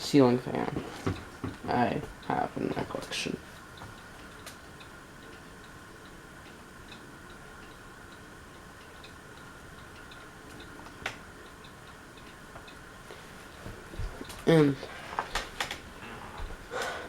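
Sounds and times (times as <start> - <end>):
ceiling fan humming: 0.0 - 17.0
light ticking: 1.1 - 17.0.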